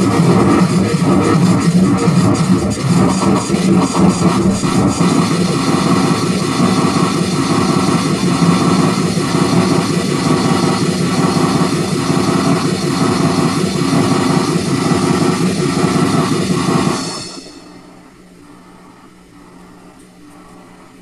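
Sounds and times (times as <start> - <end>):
pulsing synthesizer drone: 0.0 - 19.6.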